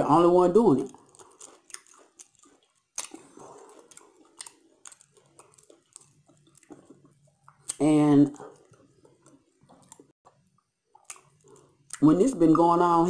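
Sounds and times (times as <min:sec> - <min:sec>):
person chewing with mouth smacks: 0:00.8 - 0:12.0.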